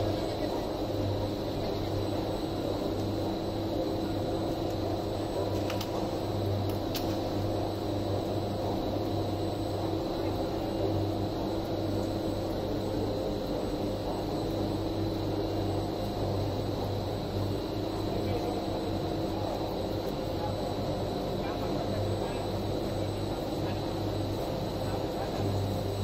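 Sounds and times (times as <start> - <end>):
machine hum with low drone: 0.0 - 26.0.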